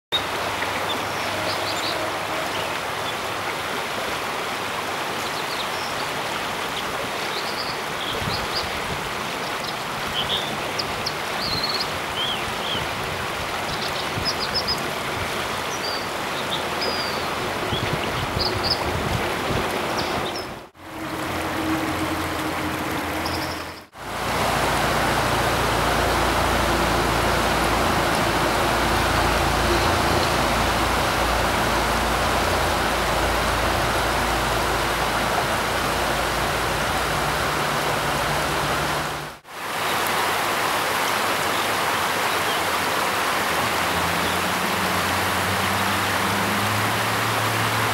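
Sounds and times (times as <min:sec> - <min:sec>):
rushing stream: 0:00.0 - 0:47.9.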